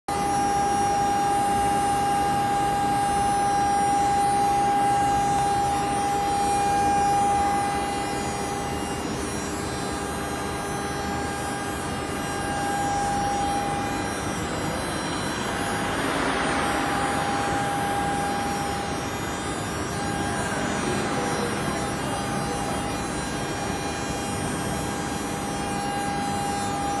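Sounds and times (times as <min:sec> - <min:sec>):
power supply whining: 0:00.1 - 0:27.0.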